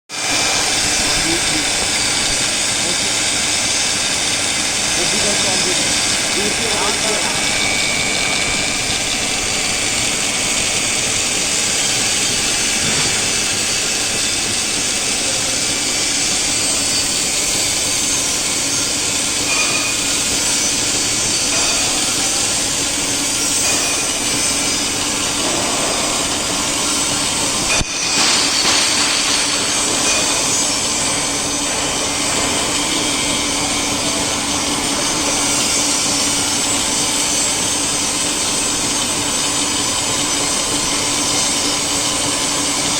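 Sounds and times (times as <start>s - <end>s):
milling machine cutting metal: 0.1s - 42.9s.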